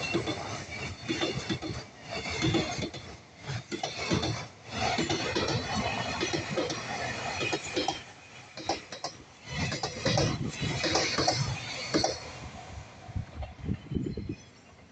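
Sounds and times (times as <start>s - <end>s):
train wheels clacking over rail joints: 0.0s - 14.4s.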